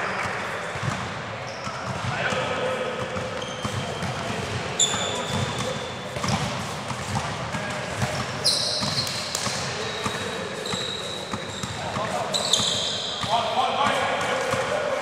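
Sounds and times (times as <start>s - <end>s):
sneakers squeaking on floor: 0.1s - 14.8s.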